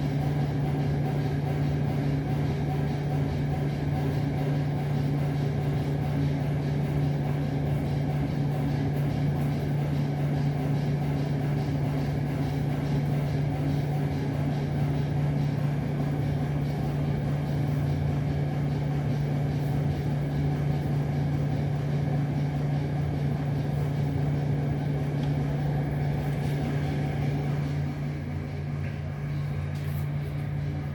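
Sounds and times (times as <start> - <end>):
low motor hum: 0.0 - 30.9.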